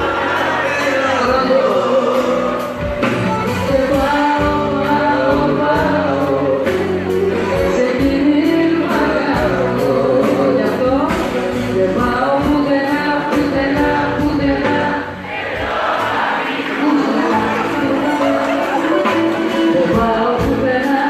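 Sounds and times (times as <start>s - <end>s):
amplified band playing: 0.0s - 21.0s
man and woman singing duet: 0.0s - 21.0s.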